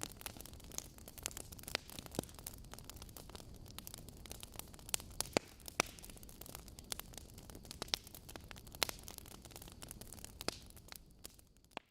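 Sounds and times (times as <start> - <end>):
campfire crackling and popping: 0.0 - 11.9.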